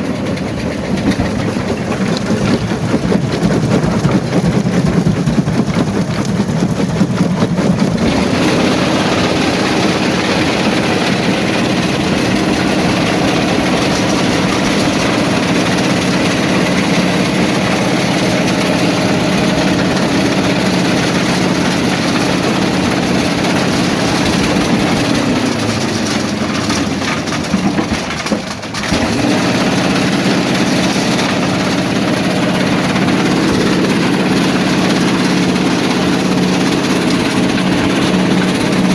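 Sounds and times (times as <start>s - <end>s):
rock crushing machinery humming: 0.0s - 38.9s.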